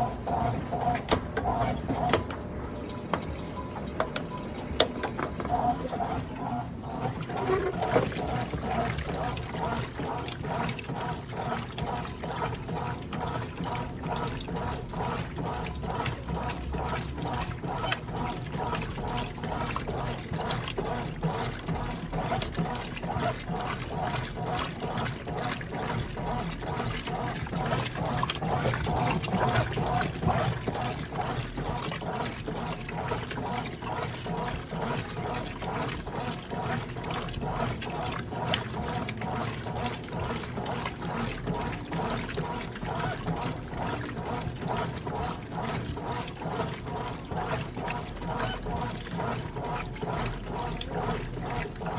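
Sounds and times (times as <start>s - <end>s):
washing machine water sloshing: 0.0s - 51.9s.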